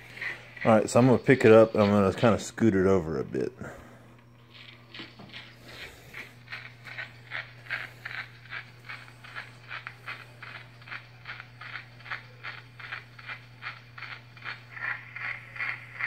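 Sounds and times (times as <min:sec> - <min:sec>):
phonograph pulse: 0:00.0 - 0:16.0.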